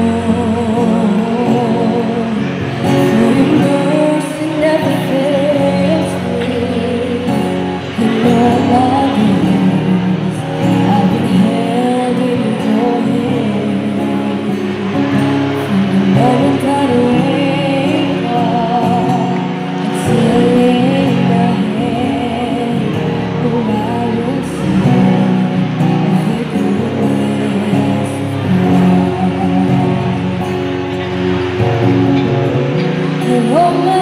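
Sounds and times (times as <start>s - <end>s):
girl singing into microphone: 0.0s - 31.0s, 32.8s - 34.0s
strummed acoustic guitar: 0.0s - 34.0s.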